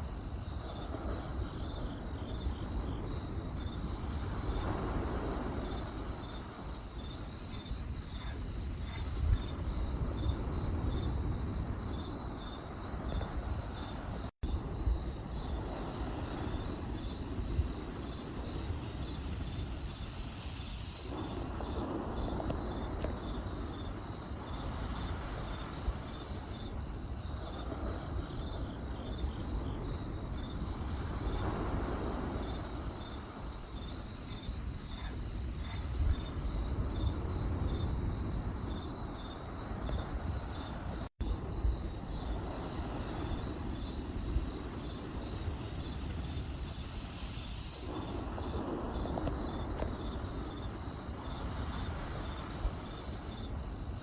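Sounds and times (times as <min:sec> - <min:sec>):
crickets chirping: 0:00.0 - 0:54.0
rushing wash: 0:00.0 - 0:54.0.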